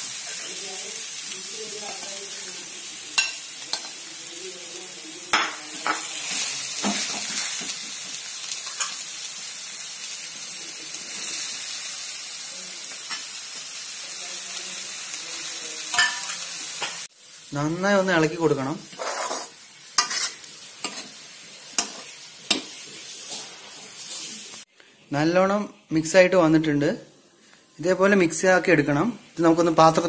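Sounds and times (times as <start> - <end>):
food sizzling in hot oil: 0.0 - 30.0.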